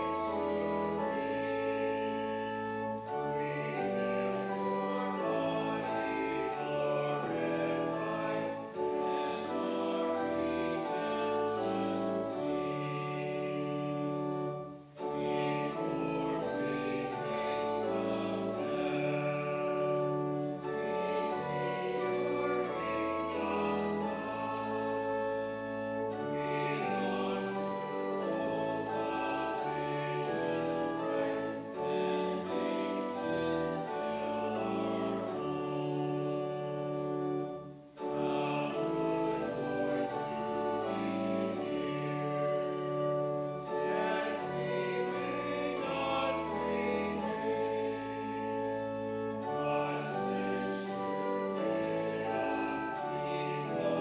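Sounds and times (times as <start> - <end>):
congregation singing a hymn: 0.0 - 54.0
organ accompaniment: 0.0 - 54.0.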